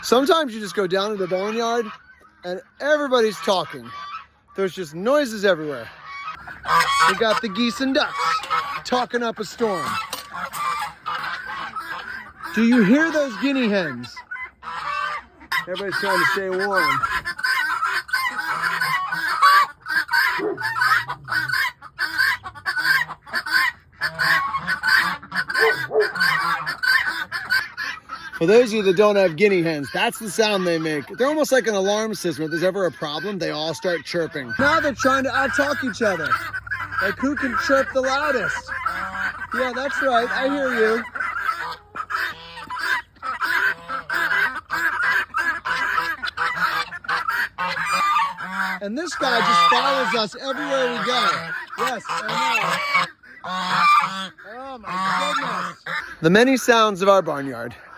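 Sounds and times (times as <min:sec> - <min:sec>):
geese honking: 0:00.0 - 0:57.9
guinea fowl calling: 0:00.0 - 0:57.9.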